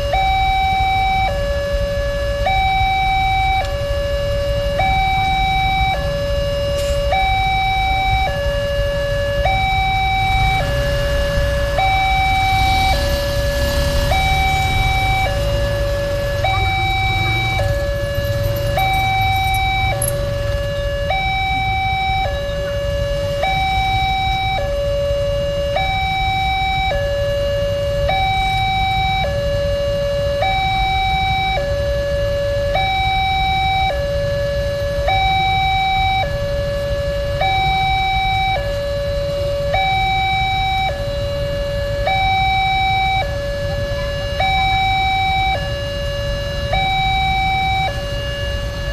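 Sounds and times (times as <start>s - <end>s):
level-crossing two-tone siren: 0.0s - 48.9s.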